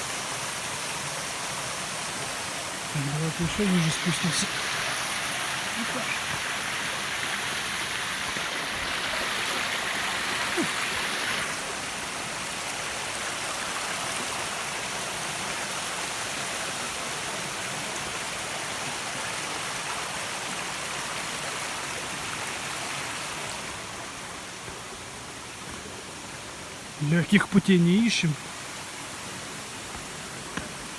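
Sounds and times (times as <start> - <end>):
waterfall rushing water: 0.0 - 30.9.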